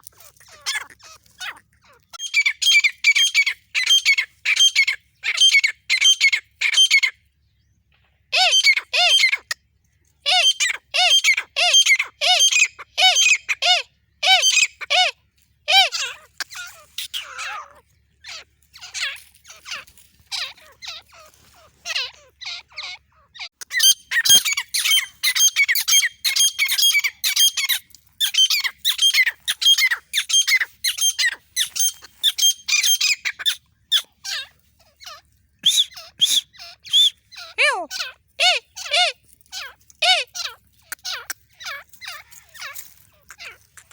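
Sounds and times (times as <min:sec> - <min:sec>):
francolins squawking: 0:00.0 - 0:07.2, 0:08.3 - 0:09.6, 0:10.2 - 0:43.9.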